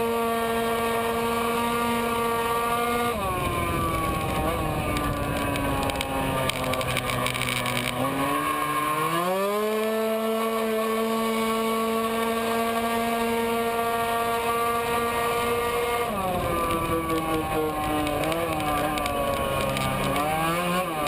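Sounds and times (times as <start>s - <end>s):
scooter engine at full throttle: 0.0s - 21.0s.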